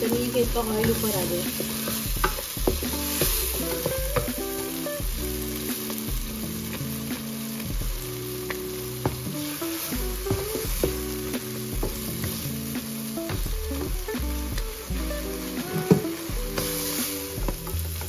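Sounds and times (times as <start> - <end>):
background music: 0.0 - 18.0
eggs and tomatoes sizzling: 0.0 - 18.0.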